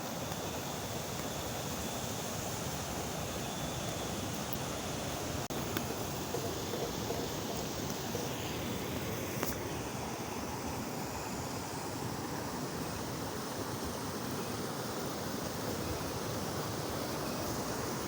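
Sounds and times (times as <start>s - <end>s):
river water over small waterfall: 0.0s - 18.0s.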